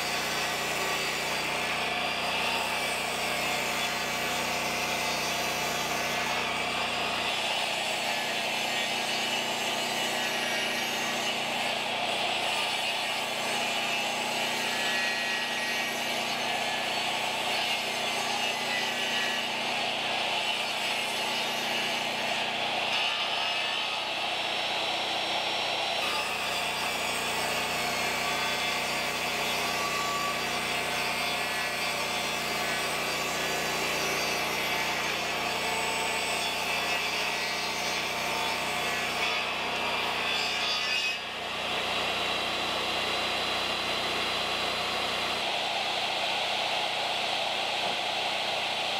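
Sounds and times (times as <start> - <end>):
table saw cutting wood: 0.0 - 48.9.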